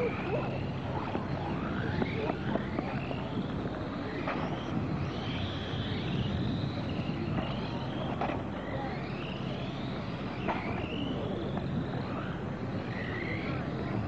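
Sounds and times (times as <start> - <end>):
rc car motors whining: 0.0 - 14.0
steady low rumble: 0.0 - 14.0.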